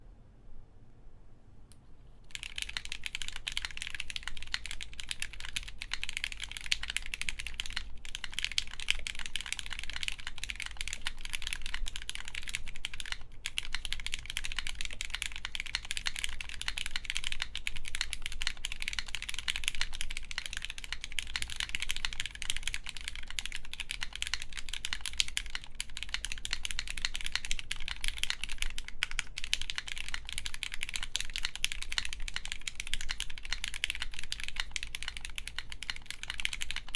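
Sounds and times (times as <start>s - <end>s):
fast mechanical keyboard typing: 2.3s - 36.9s.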